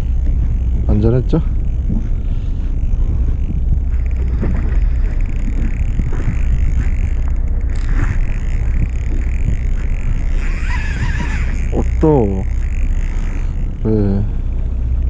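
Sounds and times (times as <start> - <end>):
boat engine rumble: 0.0 - 15.0
wind noise: 0.0 - 15.0.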